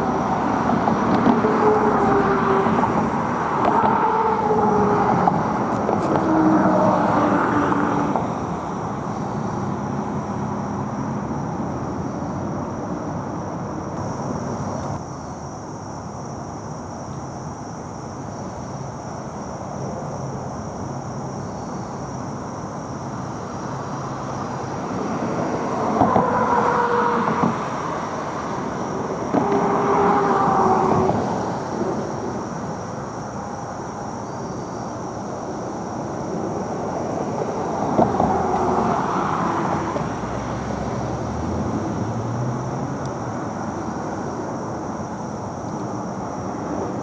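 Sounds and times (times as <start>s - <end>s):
vehicles passing: 0.0s - 15.0s, 21.7s - 47.0s
steady road traffic: 0.0s - 47.0s.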